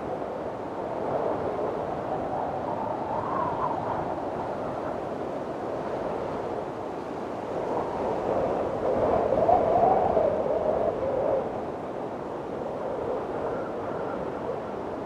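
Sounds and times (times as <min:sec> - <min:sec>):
wind blowing with moaning whistle: 0:00.0 - 0:15.0.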